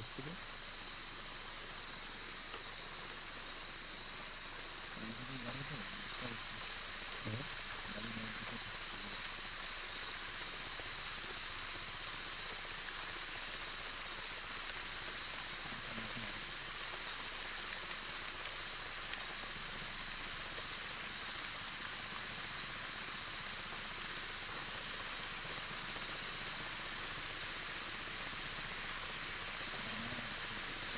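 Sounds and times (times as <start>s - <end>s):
insects buzzing: 0.0s - 30.9s
soft hiss: 0.0s - 30.9s.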